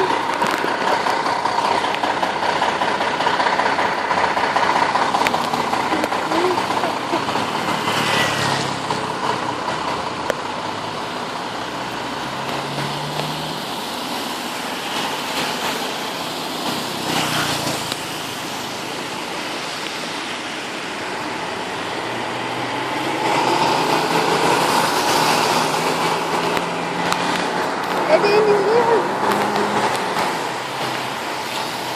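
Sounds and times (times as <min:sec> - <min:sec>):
heavy rain pouring: 0:00.0 - 0:31.9
low hum of vehicle engines: 0:00.0 - 0:31.9.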